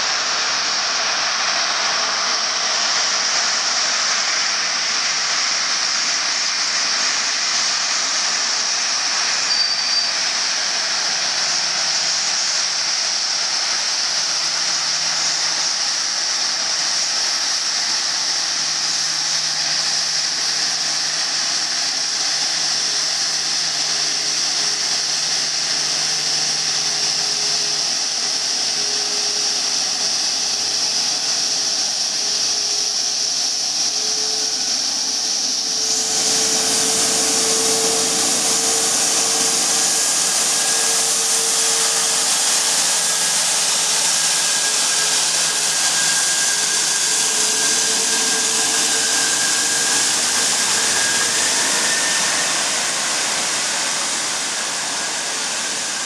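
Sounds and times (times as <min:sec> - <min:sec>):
jet engines hissing and whining: 0:00.0 - 0:56.0.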